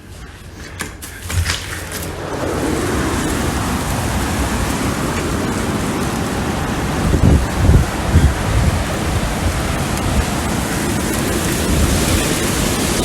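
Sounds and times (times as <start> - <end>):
wind: 0.0 - 13.0
rain: 1.0 - 13.0.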